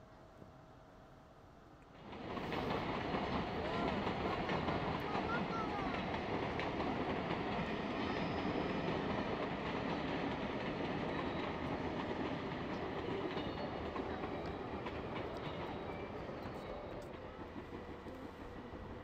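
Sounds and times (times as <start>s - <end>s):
train running past: 0.0s - 19.0s.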